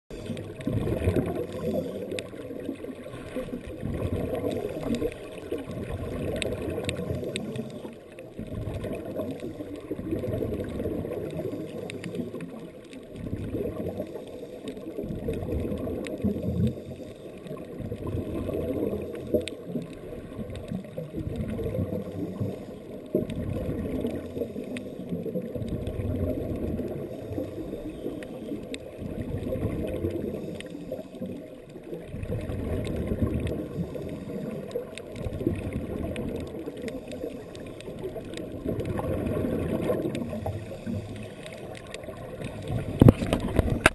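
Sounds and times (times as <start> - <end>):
muffled underwater water noise: 0.0 - 43.9.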